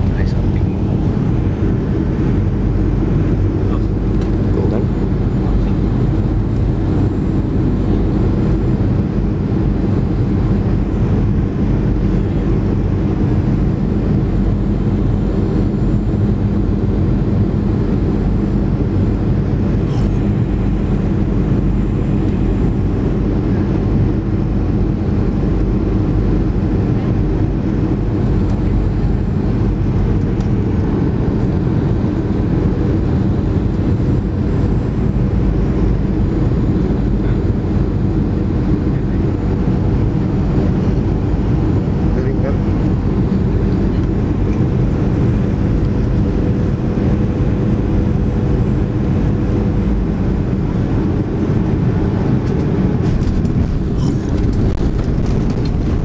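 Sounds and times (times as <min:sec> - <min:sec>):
jet engines rumbling in cabin: 0:00.0 - 0:56.0
low even hum: 0:00.0 - 0:56.0.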